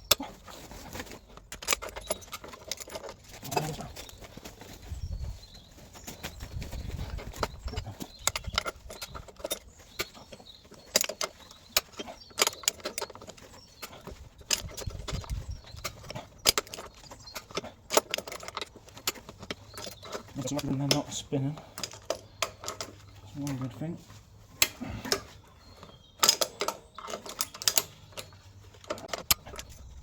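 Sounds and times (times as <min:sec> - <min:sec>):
metal tools clinking: 0:00.0 - 0:30.0.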